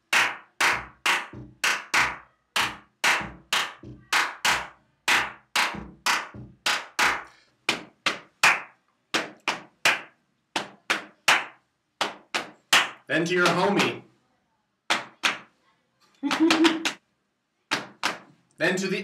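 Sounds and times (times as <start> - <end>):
hand claps: 0.0 - 14.0, 14.9 - 15.5, 16.2 - 17.0, 17.7 - 18.3.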